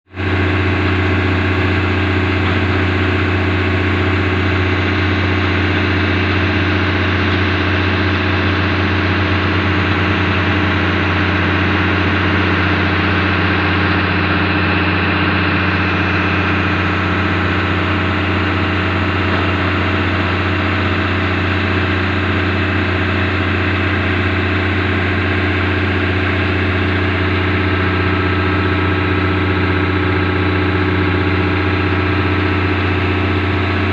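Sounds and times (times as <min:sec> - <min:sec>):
excavator diesel engine droning: 0:00.0 - 0:33.9.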